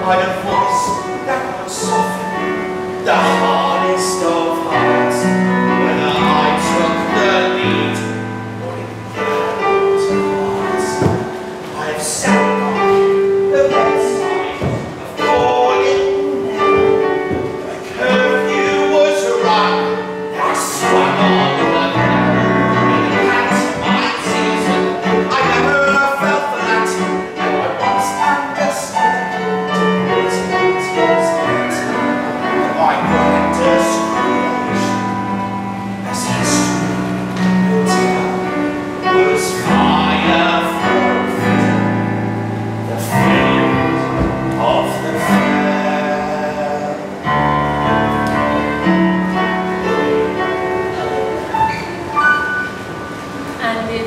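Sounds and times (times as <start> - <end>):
man singing: 0.0 - 35.2, 35.9 - 42.1, 42.8 - 51.9
instrumental accompaniment: 0.0 - 54.0.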